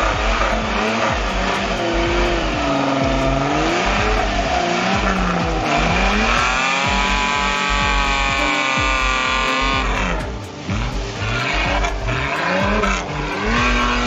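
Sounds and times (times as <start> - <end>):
off-road vehicle engine revving: 0.0 - 14.0
tyres churning through mud: 0.0 - 14.0.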